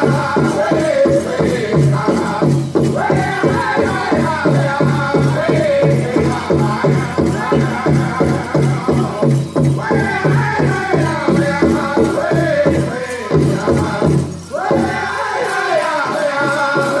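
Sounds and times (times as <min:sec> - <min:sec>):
fast even drumbeat: 0:00.0 - 0:17.0
high wavering voices singing: 0:00.0 - 0:17.0
jingling leg bells: 0:00.0 - 0:17.0.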